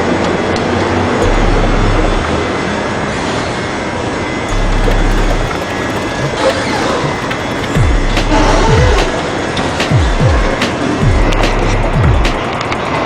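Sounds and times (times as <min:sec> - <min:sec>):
deep train hum: 0:00.0 - 0:13.0
train wheels on rails: 0:02.2 - 0:13.0.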